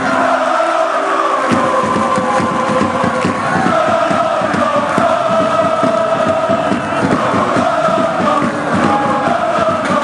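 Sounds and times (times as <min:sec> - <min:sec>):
crowd singing a chant: 0:00.0 - 0:10.0.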